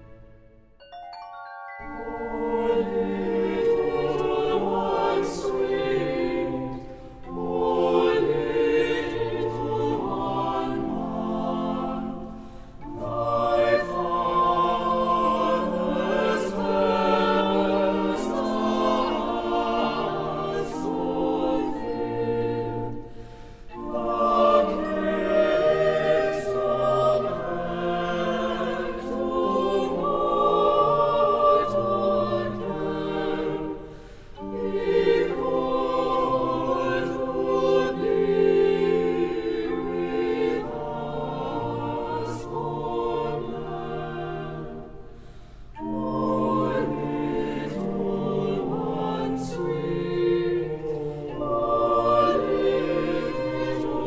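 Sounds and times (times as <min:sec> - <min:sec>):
choir singing: 0:00.0 - 0:54.0
orchestral accompaniment: 0:00.0 - 0:54.0.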